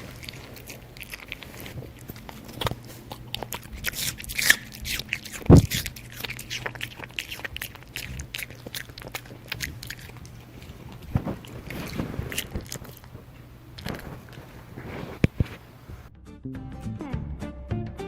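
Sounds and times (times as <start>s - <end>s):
puppy crunching pear: 0.0s - 16.0s.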